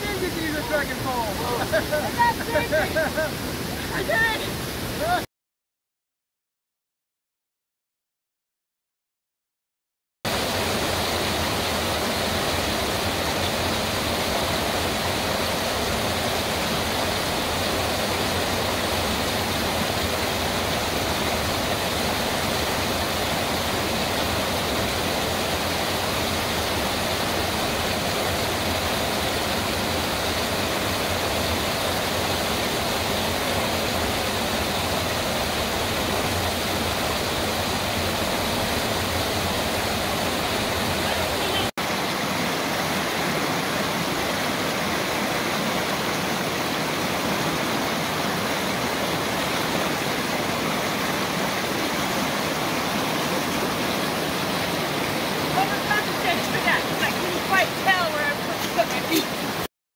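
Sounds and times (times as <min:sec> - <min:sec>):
waterfall cascading over rocks: 0:00.0 - 0:05.3, 0:10.3 - 0:59.7.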